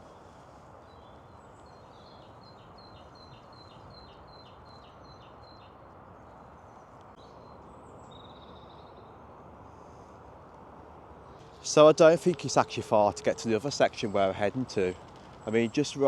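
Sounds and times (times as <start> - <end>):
low background noise: 0.0 - 16.0
songbird singing: 0.0 - 16.0.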